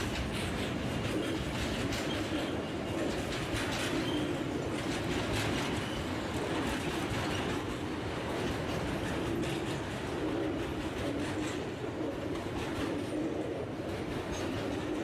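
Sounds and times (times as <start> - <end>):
train wheels rumbling on rails: 0.0 - 15.0
wheels clicking over rail joints: 0.0 - 15.0.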